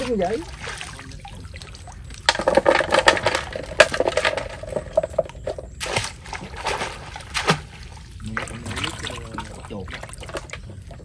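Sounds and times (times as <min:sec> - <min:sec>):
water sloshing and pouring: 0:00.0 - 0:11.0.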